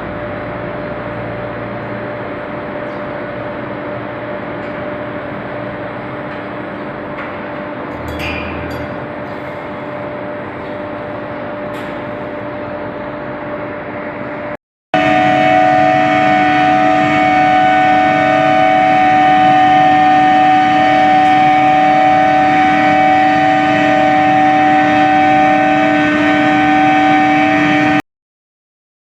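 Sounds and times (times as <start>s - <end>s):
induction furnace hum and whine: 0.0s - 28.0s.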